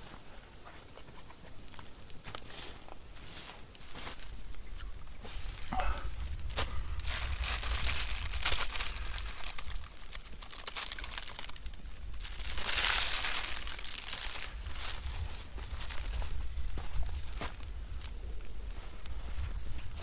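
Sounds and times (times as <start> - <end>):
rustling and crinkling handling: 0.0 - 20.0.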